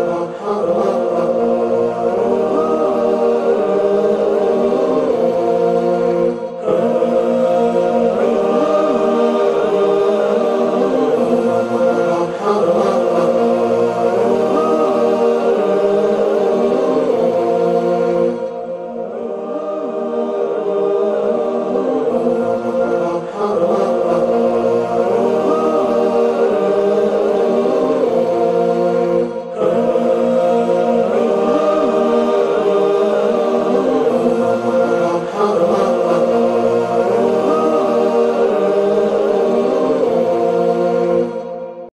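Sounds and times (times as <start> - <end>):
voices singing a melodic chant: 0.0 - 41.9.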